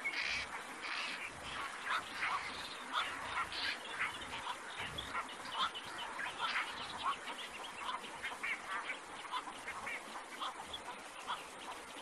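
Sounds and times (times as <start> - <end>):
herons calling: 0.0 - 12.0.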